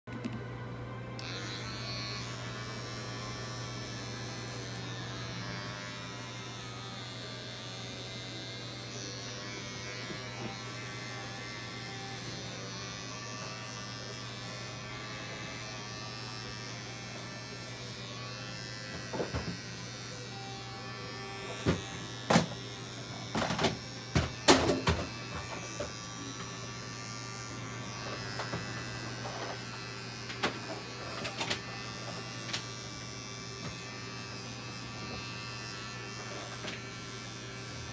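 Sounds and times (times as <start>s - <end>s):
electric hair clippers buzzing: 0.1s - 37.9s.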